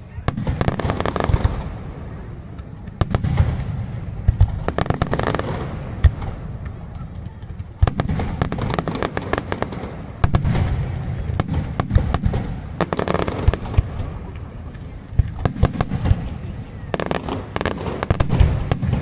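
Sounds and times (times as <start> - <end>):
fireworks bangs and crackling: 0.0 - 19.0
heavy fireworks booms: 0.0 - 19.0.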